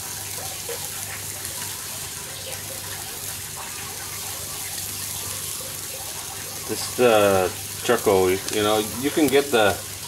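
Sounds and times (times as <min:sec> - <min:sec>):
meat sizzling on a grill: 0:00.0 - 0:10.0.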